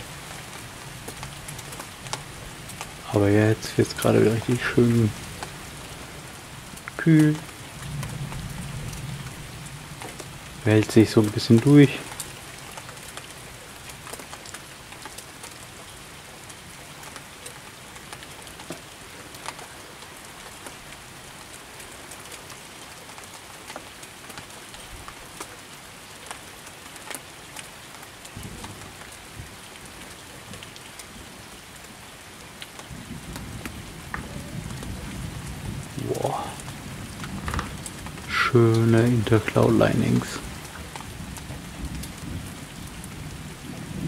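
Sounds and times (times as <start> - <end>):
raindrops ticking on a surface: 0.0 - 44.0
steady rain: 0.0 - 44.0.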